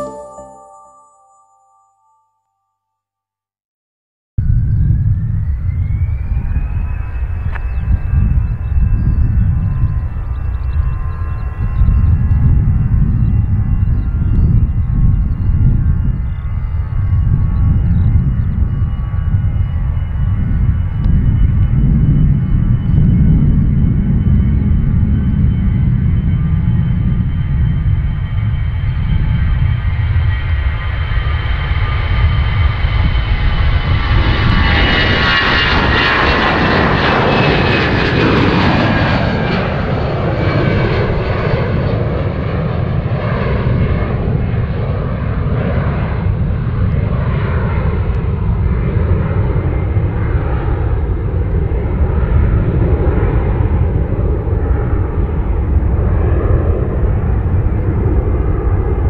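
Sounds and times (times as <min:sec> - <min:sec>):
jet engine fan whine: 0:04.4 - 0:59.0.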